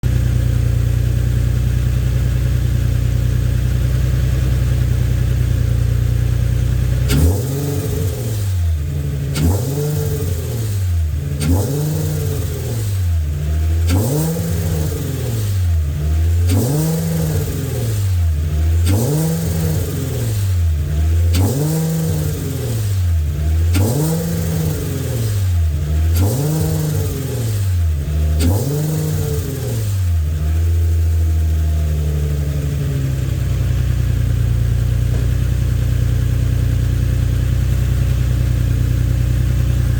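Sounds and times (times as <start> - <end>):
car engine revving: 0.0 - 39.9
rattle: 4.5 - 39.9.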